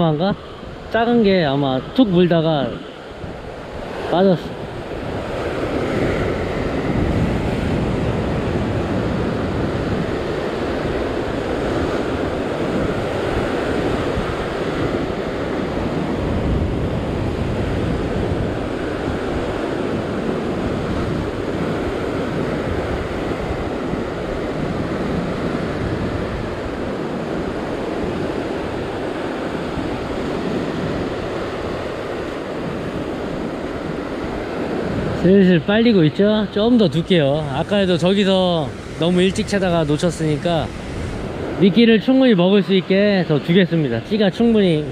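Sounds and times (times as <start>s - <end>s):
ocean surf breaking on rocks: 0.0s - 44.9s.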